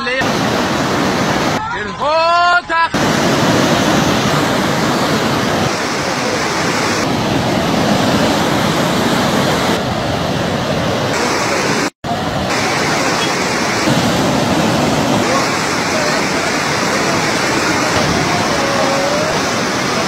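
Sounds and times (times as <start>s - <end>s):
floodwater rushing: 0.0s - 1.7s, 2.9s - 20.0s.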